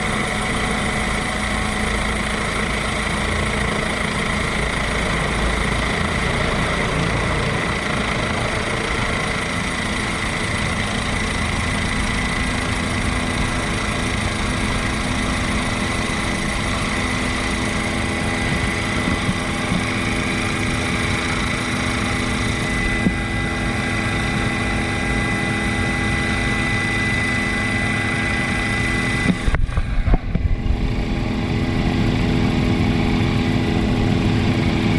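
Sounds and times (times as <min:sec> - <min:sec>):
helicopter engine and rotor drone: 0:00.0 - 0:34.9
high steady whine: 0:00.0 - 0:34.9.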